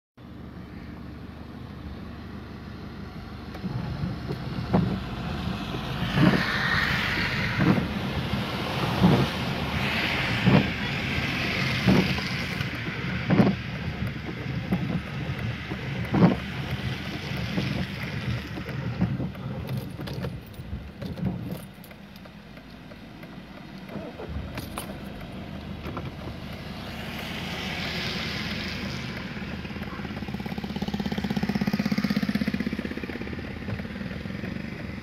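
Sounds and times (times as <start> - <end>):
car engine hum: 0.2 - 35.0
tyres hissing on wet road: 1.6 - 19.7, 22.0 - 35.0
windscreen wipers knocking: 3.1 - 35.0.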